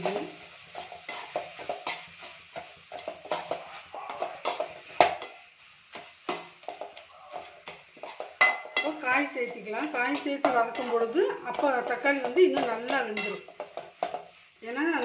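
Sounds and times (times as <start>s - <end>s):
spatula scraping a metal pan: 0.0s - 15.0s.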